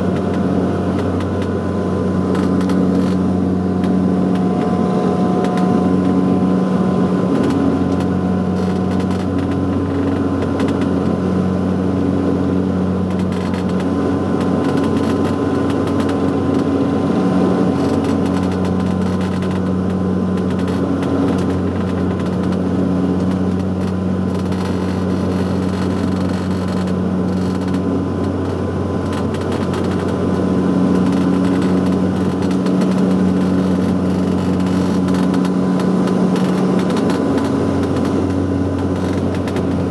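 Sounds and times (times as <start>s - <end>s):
propeller cabin drone: 0.0s - 39.9s.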